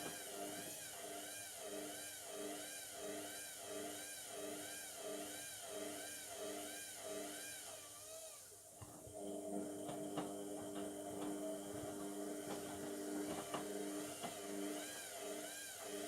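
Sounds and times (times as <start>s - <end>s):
washing machine motor whine: 0.0s - 16.0s.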